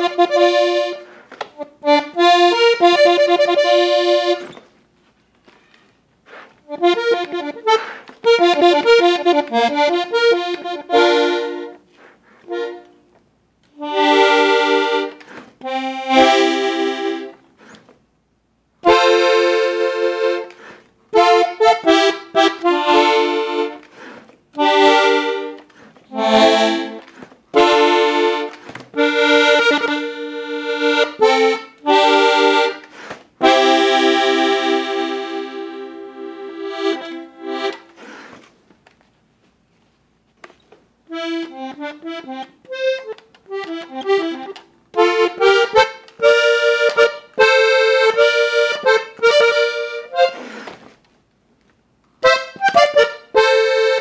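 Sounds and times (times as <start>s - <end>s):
accordion chords and runs: 0.0s - 4.7s, 6.6s - 17.9s, 18.8s - 38.4s, 41.0s - 51.0s, 52.1s - 54.0s.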